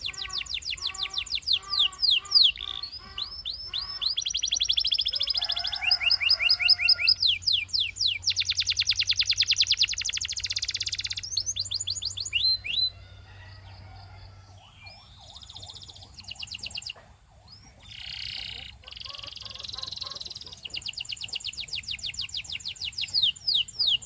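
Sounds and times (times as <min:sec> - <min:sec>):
canary singing trills: 0:00.0 - 0:13.1, 0:13.7 - 0:24.0.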